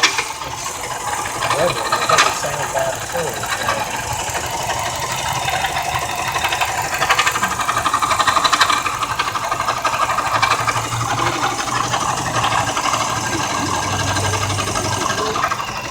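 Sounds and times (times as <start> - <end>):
car engine running: 0.0 - 15.9
rapid mechanical bearing noise: 0.0 - 15.9.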